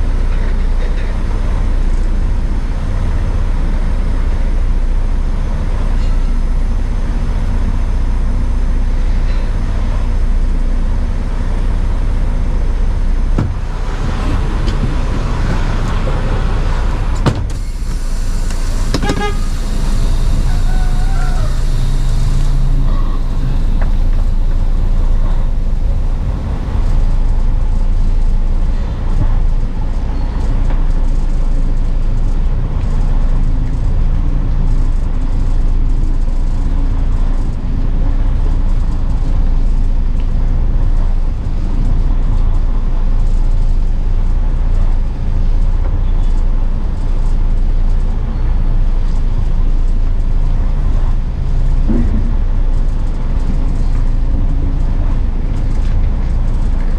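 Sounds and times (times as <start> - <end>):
road or cab noise: 0.0 - 56.9
truck diesel engine droning: 0.0 - 56.9.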